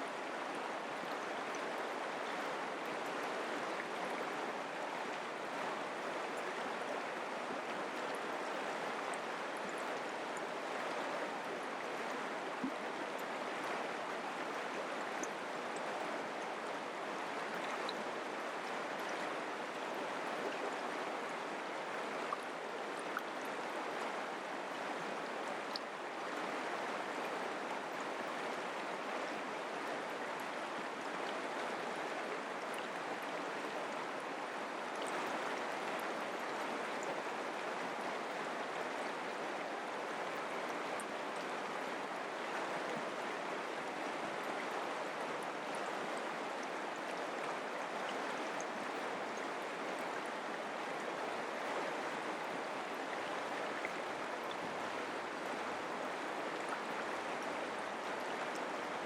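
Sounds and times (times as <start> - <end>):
creek flowing: 0.0 - 59.0.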